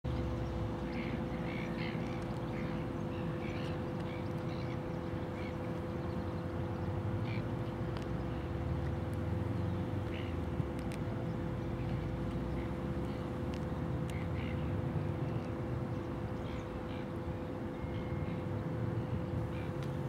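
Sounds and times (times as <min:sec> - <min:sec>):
steady hum: 0:00.1 - 0:20.0.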